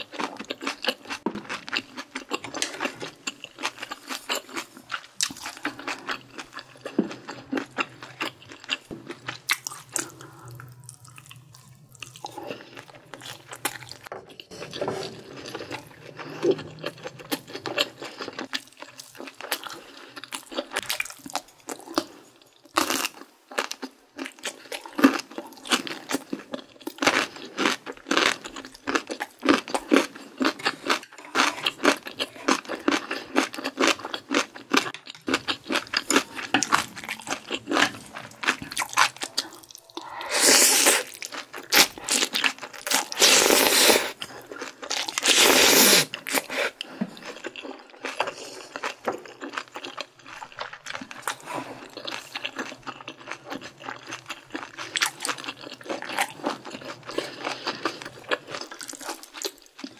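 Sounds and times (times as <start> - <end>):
crisp crunching food: 0.0 - 59.9
wet chewing: 0.0 - 59.9.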